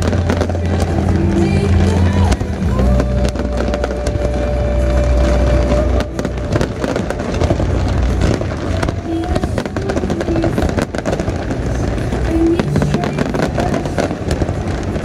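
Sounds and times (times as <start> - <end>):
fireworks cracking and popping: 0.0 - 15.0
low rumble: 0.0 - 15.0.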